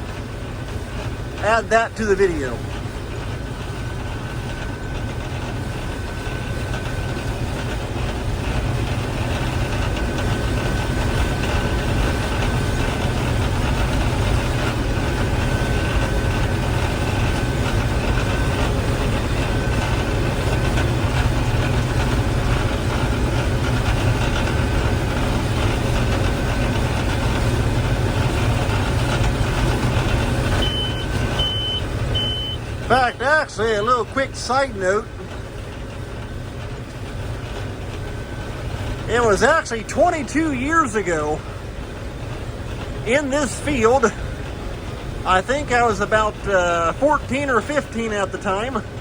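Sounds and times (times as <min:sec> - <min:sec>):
combine harvester drone: 0:00.0 - 0:49.0
thin steady whine: 0:00.0 - 0:49.0.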